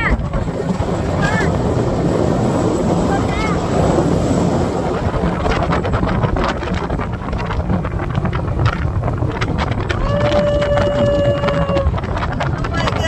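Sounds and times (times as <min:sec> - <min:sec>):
boat engine rumbling: 0:00.0 - 0:13.0
hull on water: 0:00.0 - 0:13.0
wind buffeting microphone: 0:00.0 - 0:13.0.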